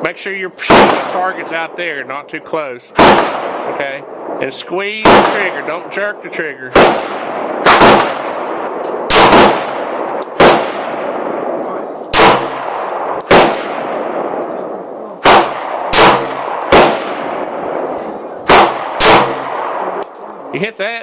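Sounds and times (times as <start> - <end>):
pistol shots echoing: 0.6 - 20.5.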